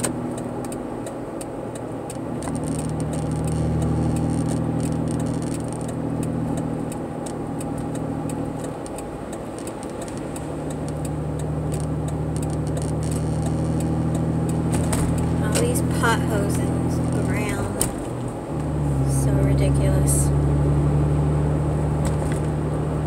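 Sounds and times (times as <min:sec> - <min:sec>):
car engine hum: 0:00.0 - 0:23.0
road noise: 0:00.0 - 0:23.0.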